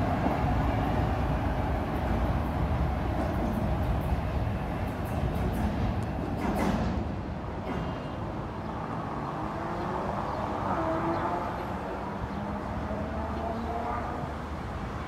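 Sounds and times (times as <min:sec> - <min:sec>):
elevated train rumble: 0:00.0 - 0:15.0.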